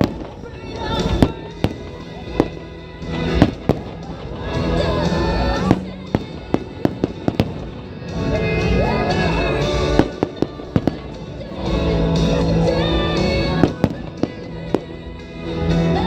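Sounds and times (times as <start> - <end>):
fireworks bangs and crackles: 0.0 - 16.0
loud music: 0.0 - 16.0.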